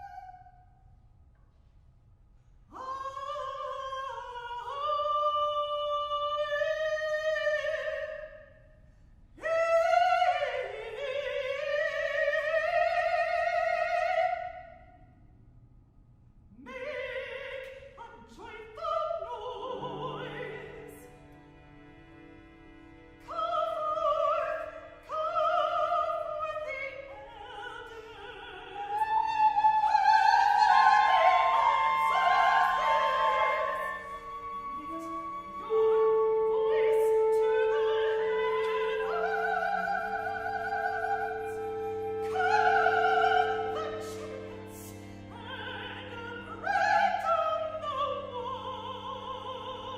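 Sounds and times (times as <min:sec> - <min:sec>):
classical solo voice singing: 0:02.7 - 0:08.4, 0:09.4 - 0:14.7, 0:16.6 - 0:21.4, 0:23.2 - 0:49.9.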